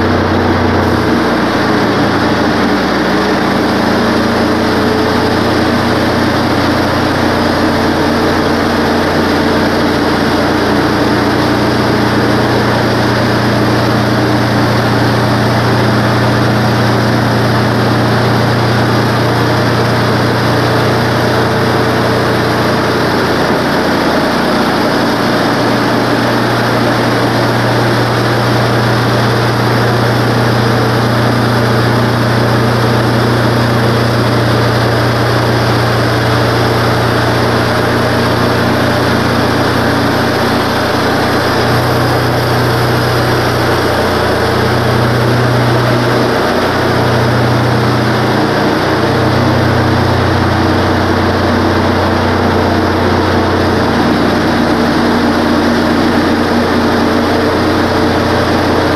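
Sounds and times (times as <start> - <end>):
band sawmill cutting log: 0.0 - 58.9
gas engine running: 0.0 - 58.9.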